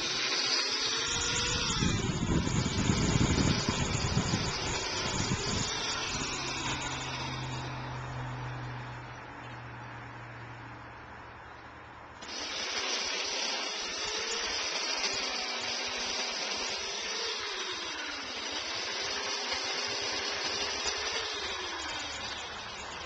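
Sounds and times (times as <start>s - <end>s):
chainsaw cutting wood: 0.0s - 8.8s, 12.2s - 23.0s.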